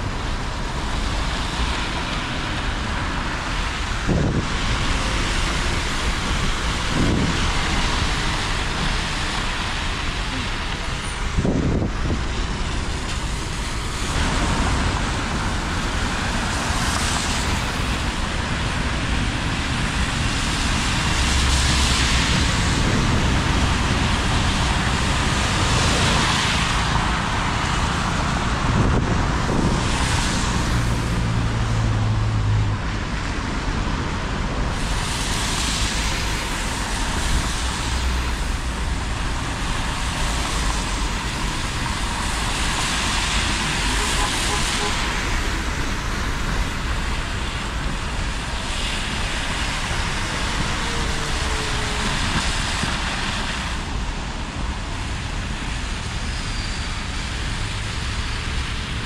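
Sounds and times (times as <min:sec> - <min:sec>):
cars and buses passing: 0:00.0 - 0:59.0
tyres hissing on wet road: 0:00.0 - 0:59.0.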